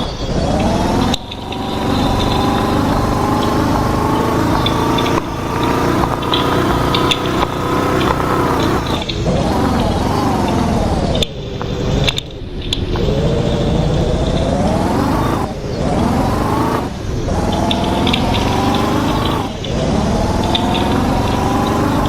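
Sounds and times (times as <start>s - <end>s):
engine accelerating through gears: 0.0s - 22.0s.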